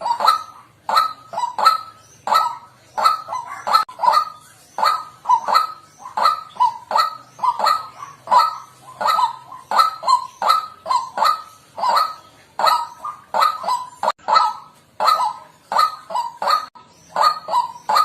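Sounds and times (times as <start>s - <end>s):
bird harsh nasal calls: 0.0s - 18.0s.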